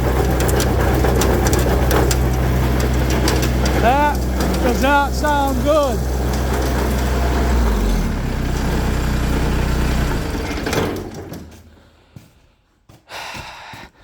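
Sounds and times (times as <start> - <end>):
snowblower gearbox noise: 0.0 - 11.8
tractor engine running: 0.0 - 11.8.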